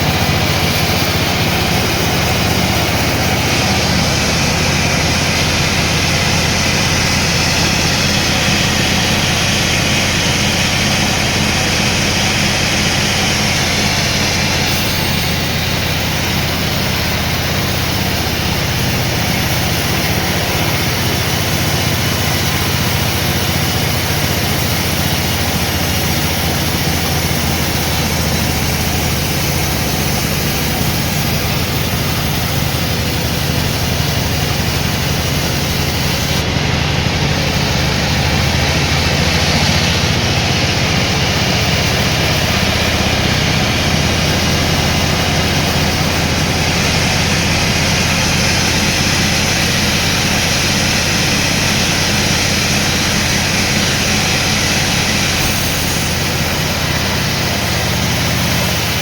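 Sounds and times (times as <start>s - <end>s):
engine humming: 0.0s - 59.0s
sawmill machinery noise: 0.0s - 59.0s.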